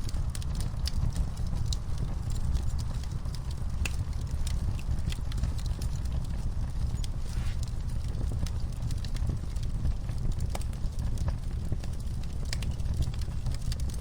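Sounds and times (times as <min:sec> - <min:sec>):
low fire rumble: 0:00.0 - 0:14.0
wood fire crackling: 0:00.0 - 0:14.0.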